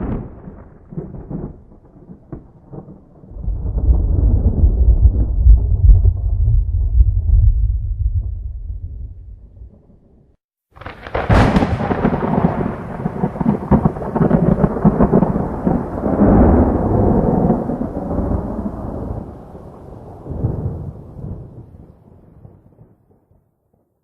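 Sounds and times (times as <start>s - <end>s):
thunder crack and rumble: 0.0s - 23.2s.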